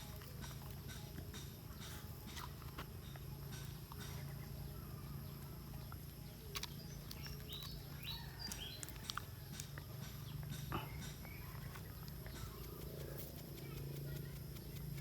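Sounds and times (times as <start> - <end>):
bird chirps: 0.0 - 15.0
steady low hum: 0.0 - 15.0.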